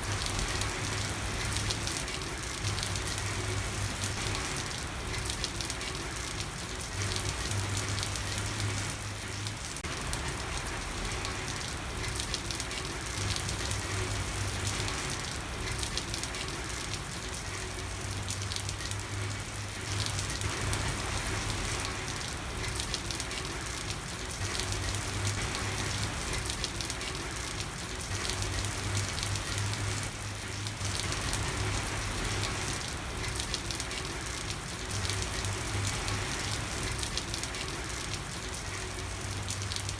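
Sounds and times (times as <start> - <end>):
rain falling on a street: 0.0 - 39.9.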